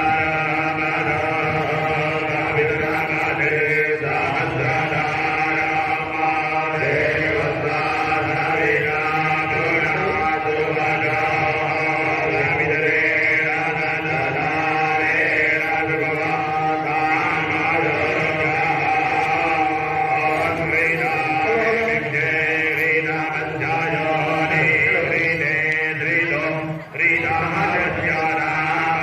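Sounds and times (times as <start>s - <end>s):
mantras chanted continuously: 0.0s - 29.0s.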